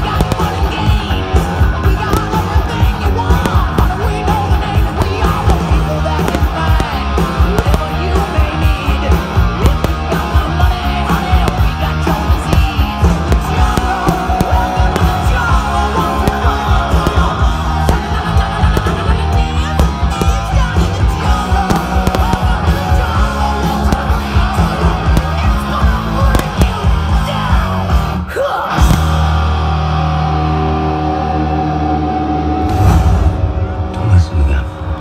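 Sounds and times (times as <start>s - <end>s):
loud rock music: 0.0s - 35.0s.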